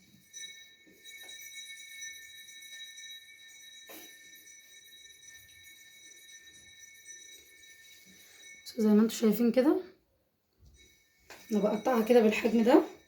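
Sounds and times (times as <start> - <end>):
faint high-pitched ringing tone: 0.0 - 10.0, 10.6 - 13.0.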